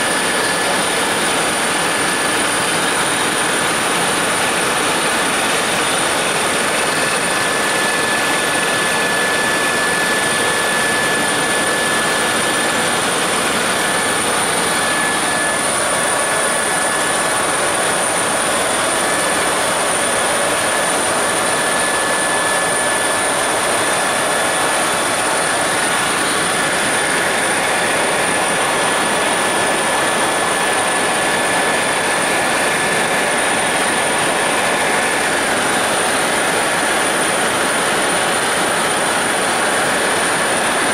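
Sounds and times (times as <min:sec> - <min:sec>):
helicopter cabin drone: 0:00.0 - 0:40.9
high-pitched whine: 0:00.0 - 0:40.9.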